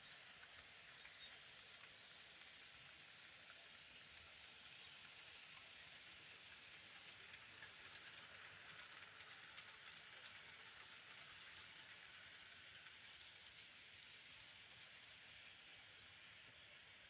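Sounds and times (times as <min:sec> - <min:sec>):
model train motors hissing: 0:00.0 - 0:17.0
small irregular clicks: 0:00.0 - 0:17.0.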